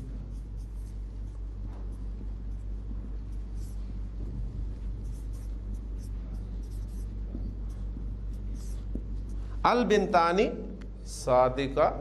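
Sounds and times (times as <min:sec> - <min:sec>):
marker writing on a whiteboard: 0:00.0 - 0:11.1
low electrical hum: 0:00.0 - 0:12.0.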